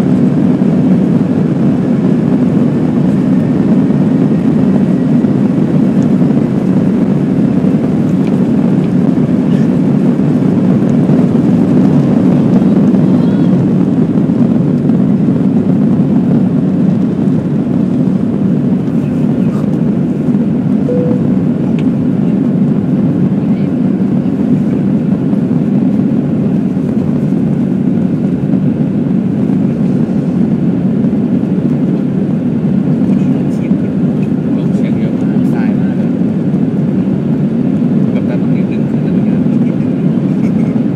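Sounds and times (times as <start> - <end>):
jet engines at takeoff thrust: 0.0 - 40.9.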